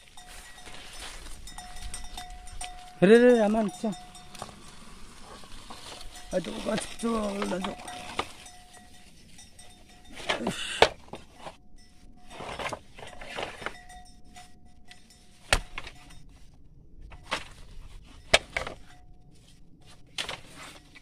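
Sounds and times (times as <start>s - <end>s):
faint steady tone: 0.0s - 21.0s
rustling leaves and twigs: 0.0s - 21.0s.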